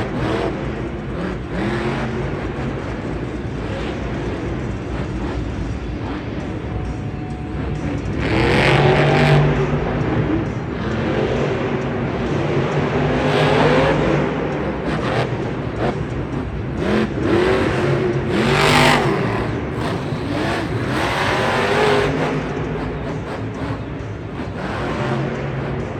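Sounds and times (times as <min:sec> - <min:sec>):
truck engine revving: 0:00.0 - 0:25.9.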